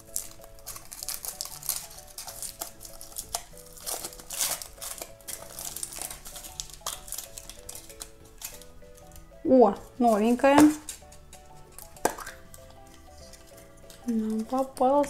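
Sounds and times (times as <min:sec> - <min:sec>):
wrapper crinkling: 0:00.0 - 0:09.2, 0:09.8 - 0:15.0
soft background music: 0:00.0 - 0:15.0.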